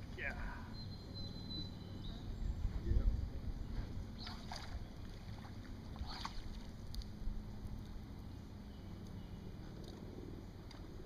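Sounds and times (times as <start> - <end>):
river ambience: 0.0 - 11.0
wind rumble on microphone: 0.0 - 11.0.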